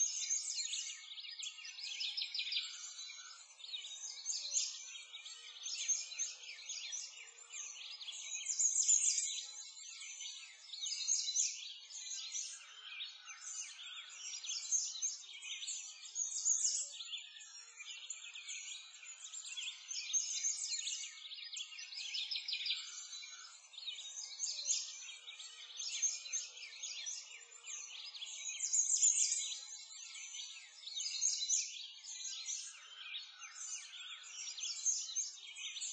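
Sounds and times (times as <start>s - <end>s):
many small birds chirping: 0.0s - 35.9s.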